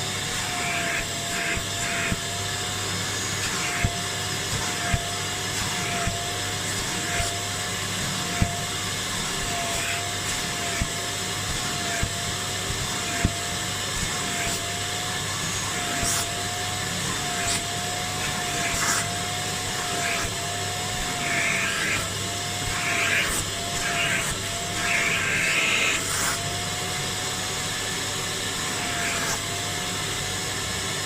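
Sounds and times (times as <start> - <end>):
spray extractor motor whine: 0.0 - 31.0.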